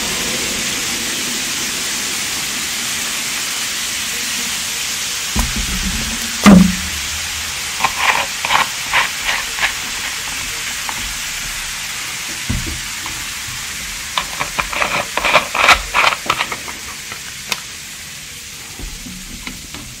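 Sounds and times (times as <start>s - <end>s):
soda fizzing hiss: 0.0s - 20.0s.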